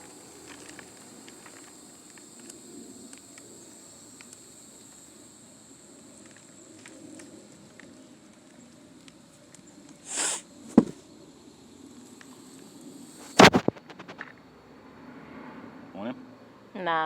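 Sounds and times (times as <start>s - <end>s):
high-pitched insect buzz: 0.0s - 14.6s.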